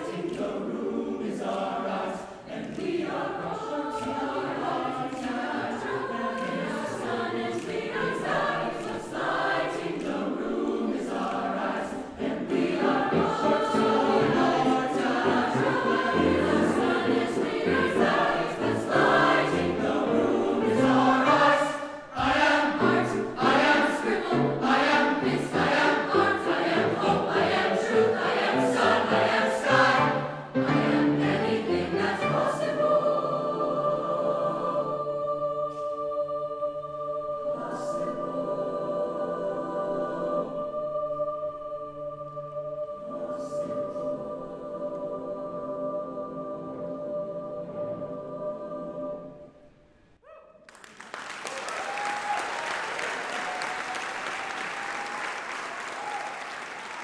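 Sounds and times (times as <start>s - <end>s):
youth choir singing: 0.0s - 49.7s.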